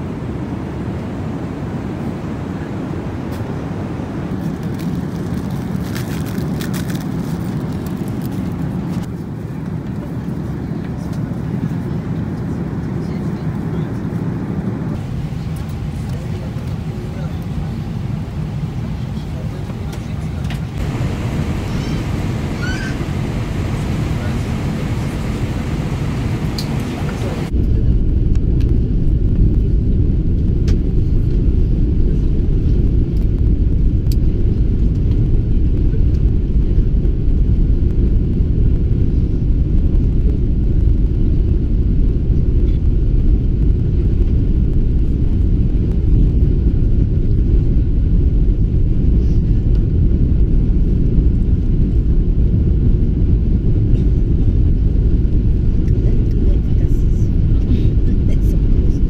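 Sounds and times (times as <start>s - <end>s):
aircraft cabin rumble: 0.0s - 59.0s.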